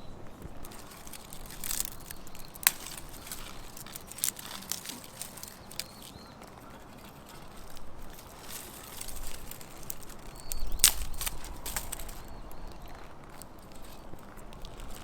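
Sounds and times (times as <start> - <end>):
twig fire crackling: 0.0 - 15.0.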